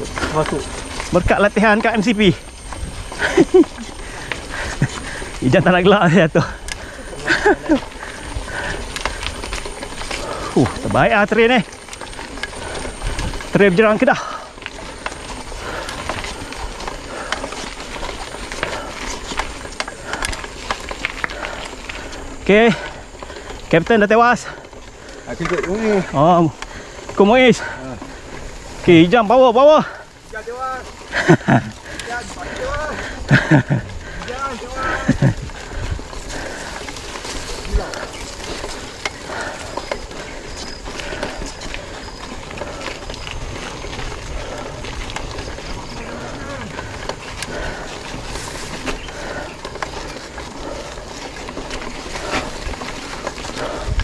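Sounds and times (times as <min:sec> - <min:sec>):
bike clicking and rattling: 0:00.0 - 0:54.0
bike tyres rolling on dirt: 0:00.0 - 0:54.0.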